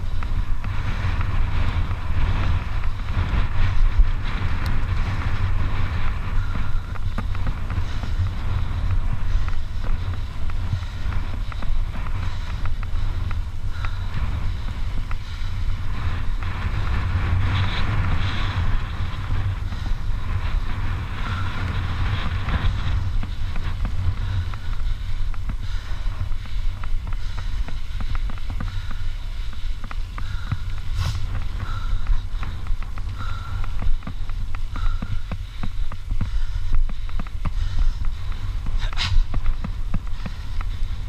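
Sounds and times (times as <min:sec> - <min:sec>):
bike rattling with small clicks: 0:00.0 - 0:41.0
knobby tyres humming on dirt: 0:00.0 - 0:41.0
wind buffeting microphone: 0:00.0 - 0:41.0.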